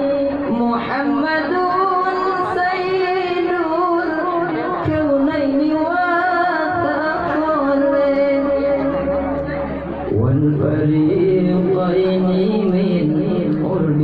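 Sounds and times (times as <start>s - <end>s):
person singing devotional chant: 0.0s - 14.0s.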